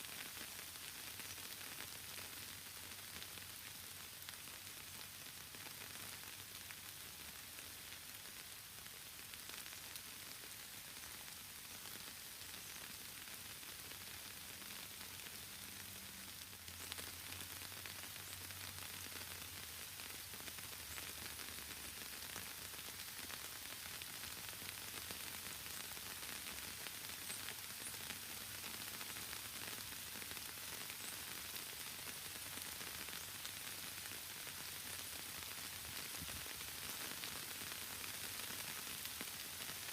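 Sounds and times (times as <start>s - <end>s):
steady rain in forest: 0.0s - 39.9s.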